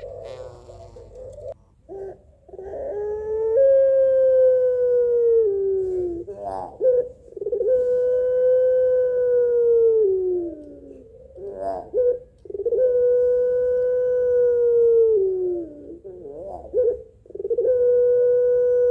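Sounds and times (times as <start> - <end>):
dove cooing: 0.0 - 18.9.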